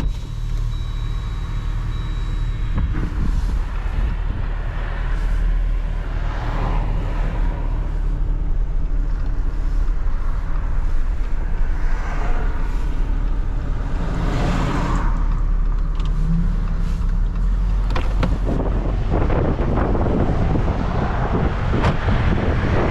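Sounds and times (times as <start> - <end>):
truck engine and road rumble: 0.0 - 22.9.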